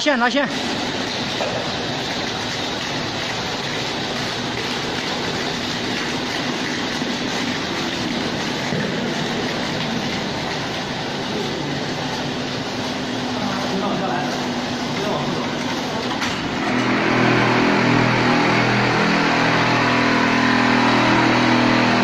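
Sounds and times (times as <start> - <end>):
construction machinery running: 0.0 - 22.0.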